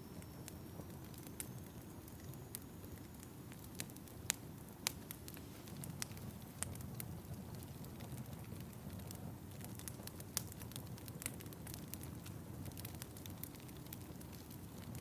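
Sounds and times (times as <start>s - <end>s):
low rumble of flames: 0.0s - 15.0s
wood fire crackling: 0.0s - 15.0s
sharp pops of fire: 0.2s - 15.0s.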